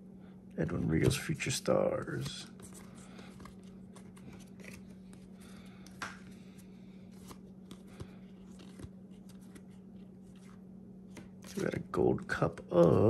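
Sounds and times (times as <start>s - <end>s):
paper cards flipping: 0.8s - 11.9s.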